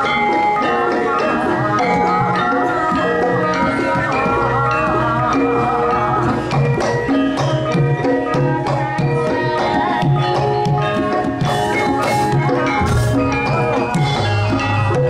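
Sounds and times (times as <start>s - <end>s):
gamelan gongs and metallophones: 0.0s - 15.0s
hand drum pattern: 0.0s - 15.0s.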